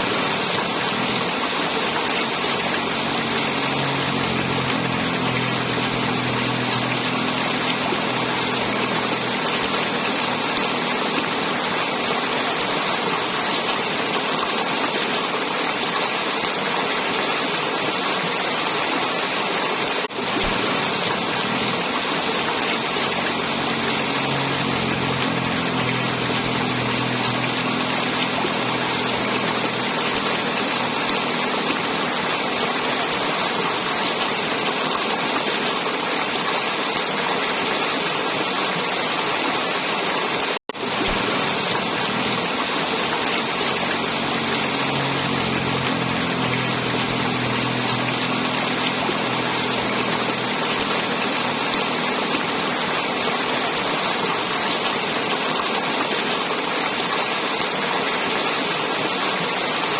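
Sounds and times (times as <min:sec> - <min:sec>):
river water flowing and gurgling: 0:00.0 - 0:59.9.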